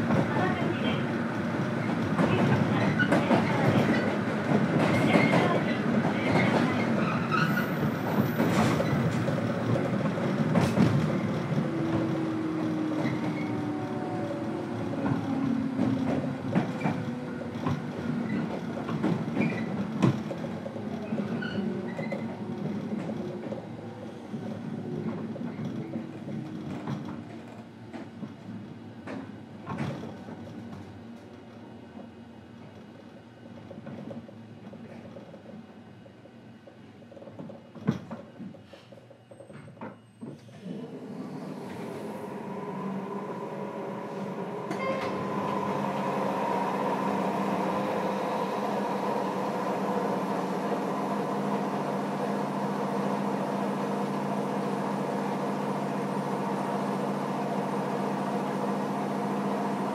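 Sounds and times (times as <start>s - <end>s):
train rumble and motor hum: 0.0s - 59.9s.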